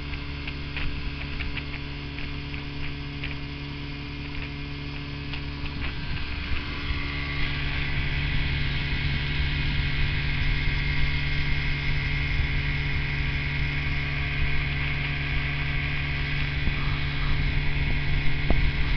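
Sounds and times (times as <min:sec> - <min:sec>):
outboard motor running: 0:00.0 - 0:18.9.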